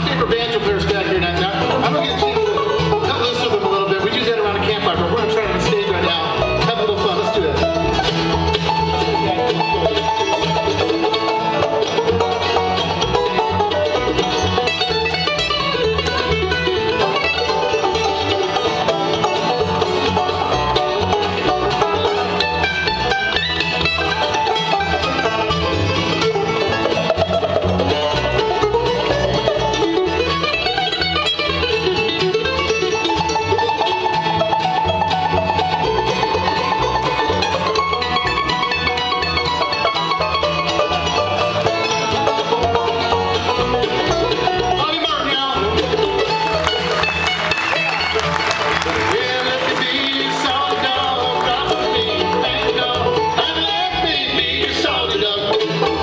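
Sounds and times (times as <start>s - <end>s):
acoustic guitar picking: 0.0s - 56.0s
banjo: 0.0s - 56.0s
mandolin: 0.0s - 56.0s.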